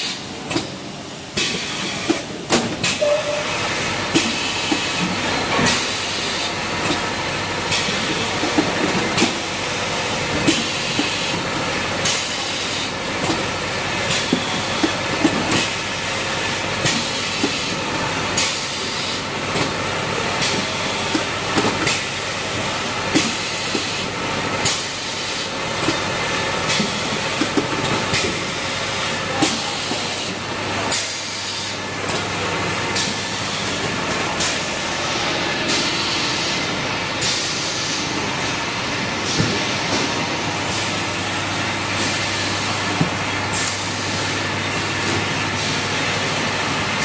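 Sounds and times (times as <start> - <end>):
machine hiss and whir: 0.0 - 47.0.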